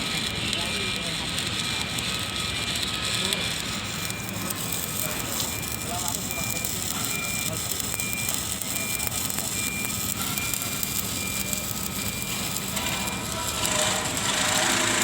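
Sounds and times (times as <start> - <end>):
welding arc crackling: 0.0 - 15.0
reversing alarm beeping: 0.6 - 15.0.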